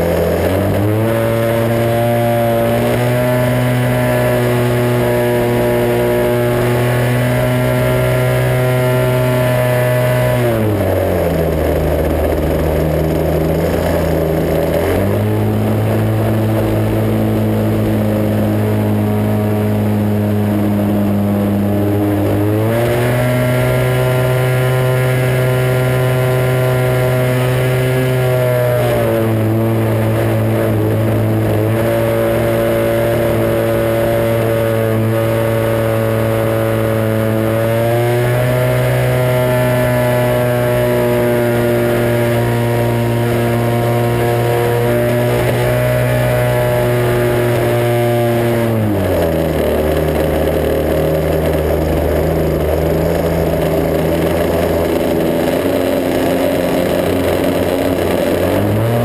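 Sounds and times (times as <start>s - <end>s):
model plane engine and propeller: 0.0s - 59.0s.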